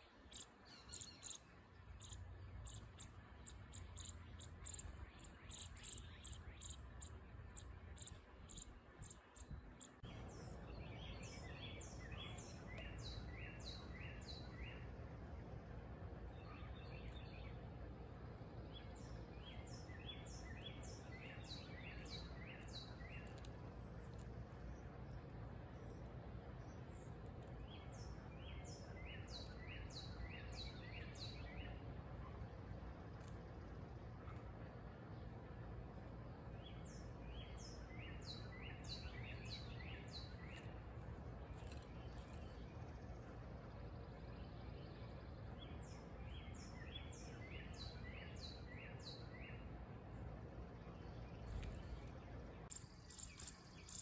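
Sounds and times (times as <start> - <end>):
low background noise: 0.0 - 54.0.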